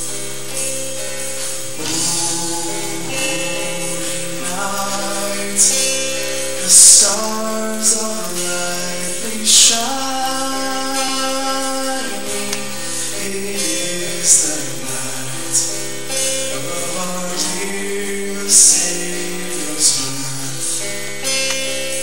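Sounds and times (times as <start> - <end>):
sharp bright hits: 0.0 - 20.2
strummed acoustic guitar: 0.0 - 22.0
people singing: 1.0 - 21.6.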